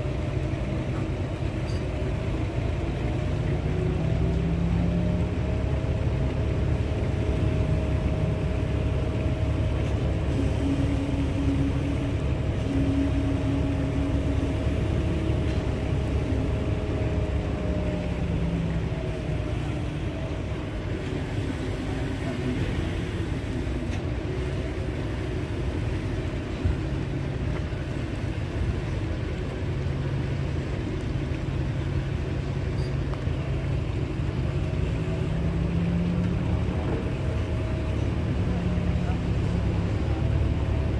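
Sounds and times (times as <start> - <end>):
heavy machinery engines running: 0.0 - 40.9.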